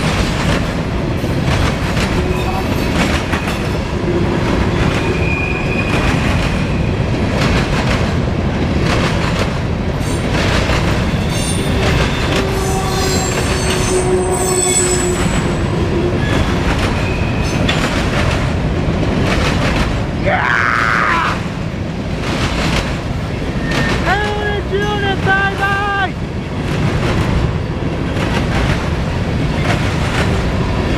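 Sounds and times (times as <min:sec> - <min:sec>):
steel wheels rumbling on rail: 0:00.0 - 0:30.9.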